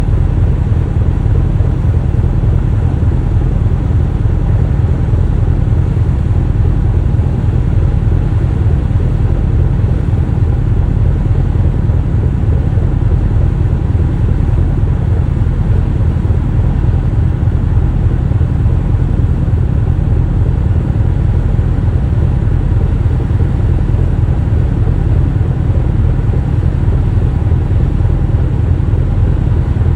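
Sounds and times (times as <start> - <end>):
ship deep rumble: 0.0 - 29.9.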